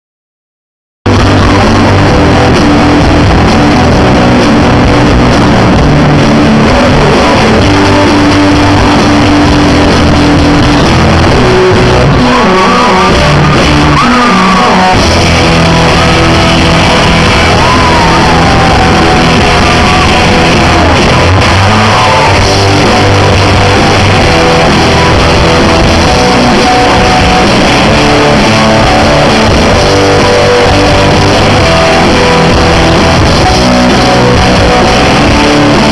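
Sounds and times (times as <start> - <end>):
person singing: 1.1 - 35.9
rock band playing live: 1.1 - 35.9.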